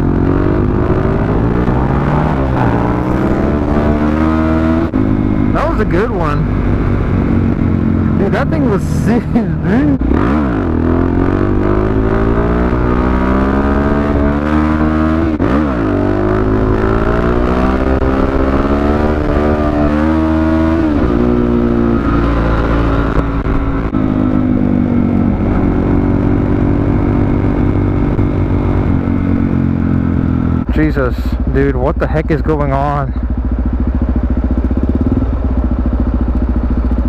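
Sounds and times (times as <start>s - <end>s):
motorcycle engine: 0.0s - 37.0s.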